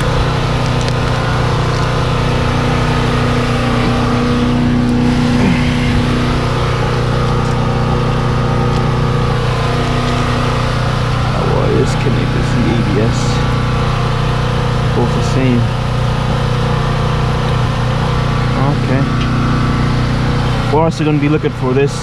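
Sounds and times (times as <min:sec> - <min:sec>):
motor running steadily: 0:00.0 - 0:22.0.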